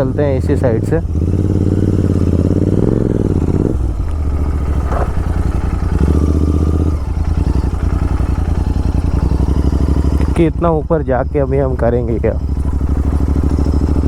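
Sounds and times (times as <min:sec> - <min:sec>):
motorcycle engine riding: 0:00.0 - 0:14.0.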